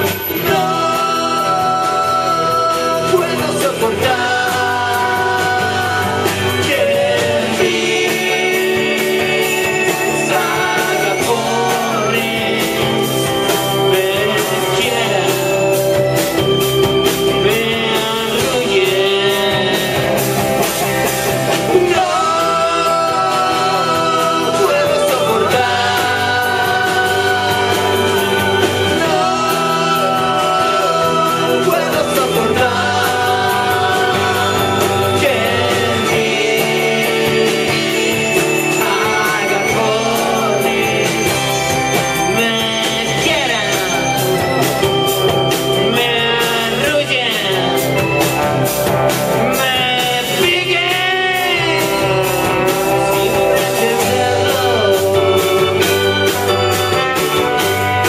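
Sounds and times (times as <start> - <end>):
guitars playing: 0.0 - 58.0
voices singing together: 0.0 - 58.0.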